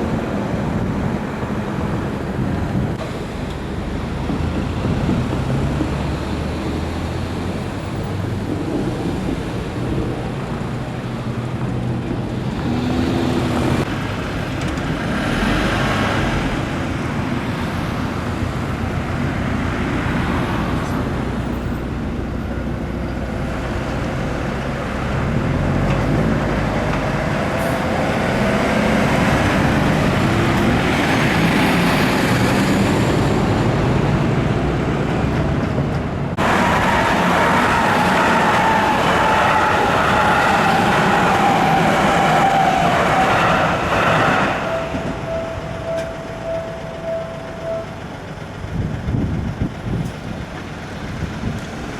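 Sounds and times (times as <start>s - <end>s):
trucks and cars driving past: 0.0s - 51.9s.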